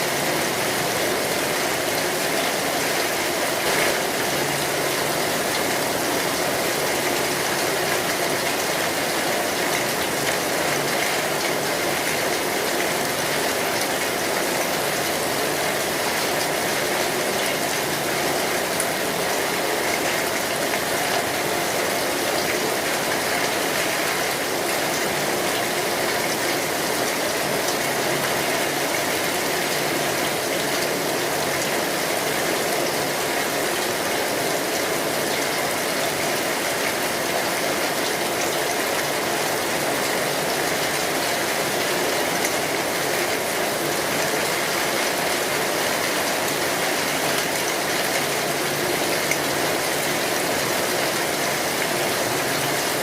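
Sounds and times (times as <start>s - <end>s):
heavy rain on a metal roof: 0.0s - 53.0s.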